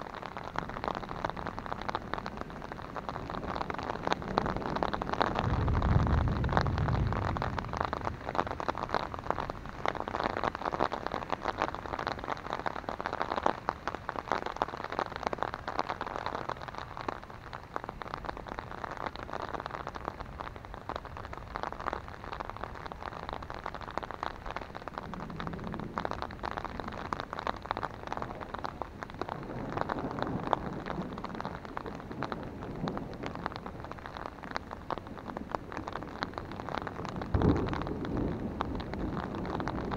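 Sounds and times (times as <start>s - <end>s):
rain pattering on umbrella: 0.0s - 39.9s
low rumble of thunder: 0.6s - 12.3s, 18.1s - 39.9s.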